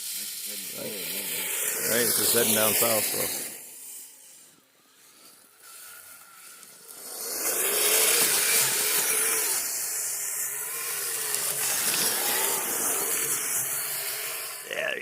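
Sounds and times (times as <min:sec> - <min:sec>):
plastic tracks churning snow: 0:00.0 - 0:14.6
faint motor whine: 0:00.0 - 0:15.0.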